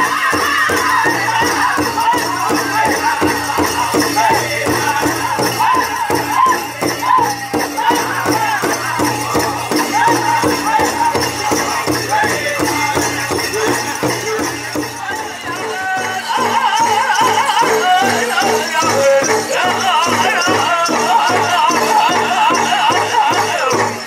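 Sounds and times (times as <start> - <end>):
group singing high vocals: 0.0 - 24.0
jingling bells rattle: 0.0 - 24.0
large drum beating: 0.0 - 24.0.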